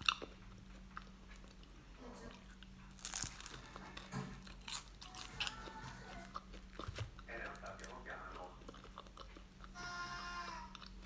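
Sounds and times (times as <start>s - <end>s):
crunching and chewing fried food: 0.0s - 11.0s.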